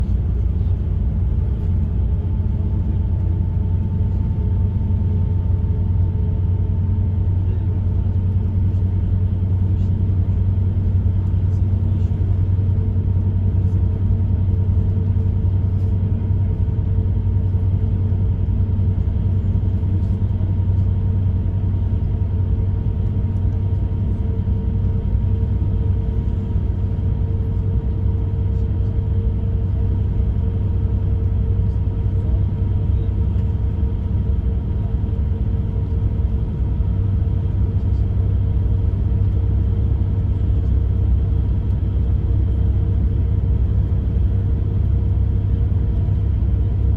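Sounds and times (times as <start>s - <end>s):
bus engine and road rumble: 0.0s - 46.9s
constant hum: 0.0s - 46.9s.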